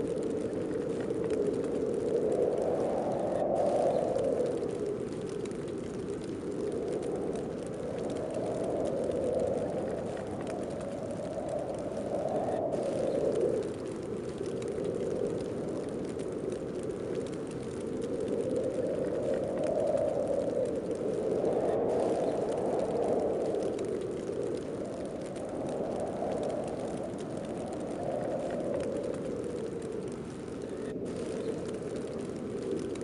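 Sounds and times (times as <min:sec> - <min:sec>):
snowstorm wind blowing in gusts: 0:00.0 - 0:33.0.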